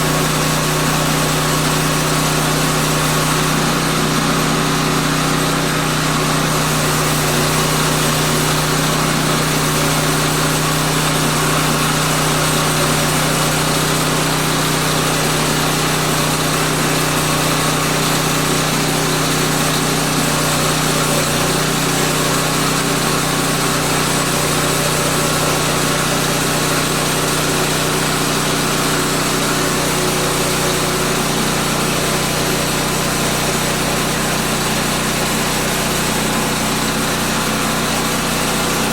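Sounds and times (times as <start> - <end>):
band blade sawing log: 0.0 - 38.9
gas engine running: 0.0 - 38.9.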